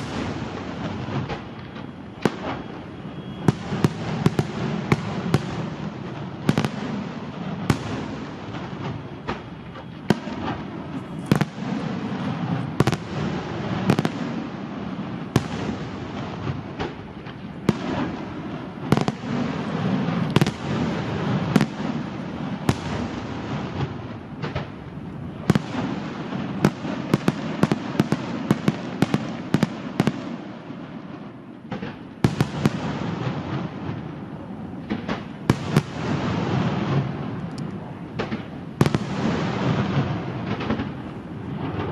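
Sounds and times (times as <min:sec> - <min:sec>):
sharp firework bangs: 0:00.0 - 0:30.8, 0:31.7 - 0:34.2, 0:34.8 - 0:41.9
rumble and crackle of fireworks: 0:00.0 - 0:41.9.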